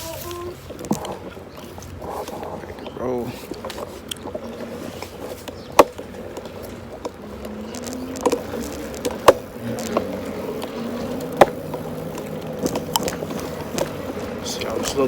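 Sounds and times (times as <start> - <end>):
bike knocking and rattling: 0.0 - 15.0
hub motor humming: 0.0 - 15.0.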